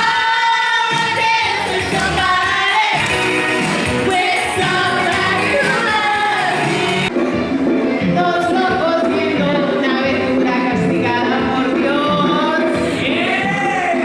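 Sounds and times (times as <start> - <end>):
pop song with singing: 0.0 - 14.0.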